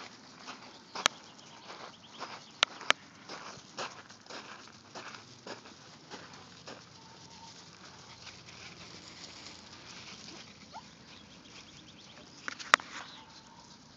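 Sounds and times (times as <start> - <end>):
paws pattering on gravel: 0.0 - 13.9.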